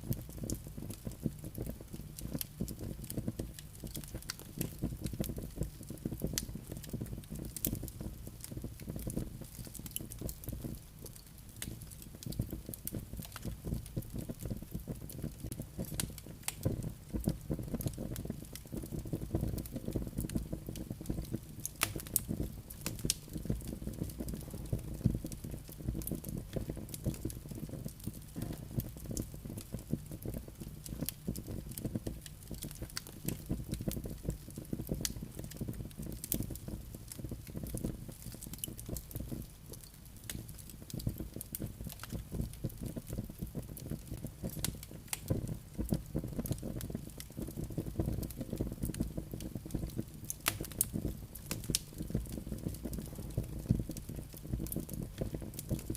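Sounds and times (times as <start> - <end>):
low rumble of flames: 0.0 - 55.9
burning wood popping and snapping: 0.1 - 55.9.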